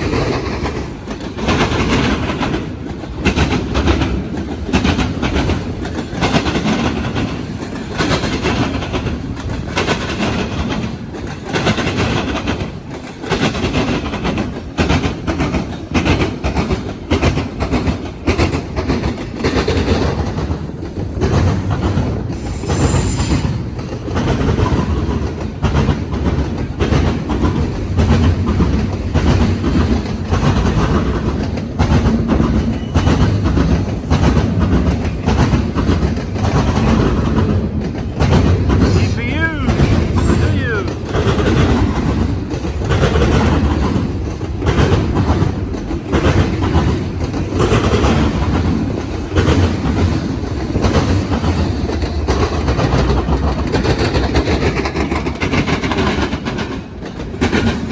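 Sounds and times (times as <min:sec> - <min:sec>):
train wheels clacking over crossing: 0:00.0 - 0:57.9.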